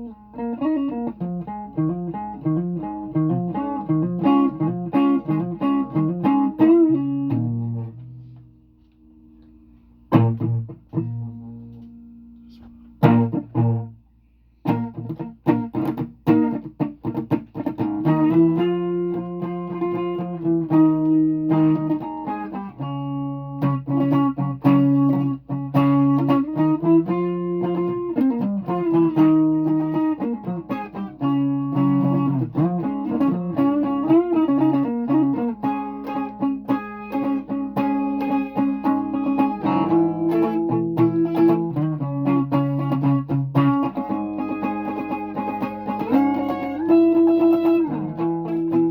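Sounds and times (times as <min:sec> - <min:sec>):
guitar notes and chords: 0:00.0 - 0:14.0, 0:14.6 - 0:48.9.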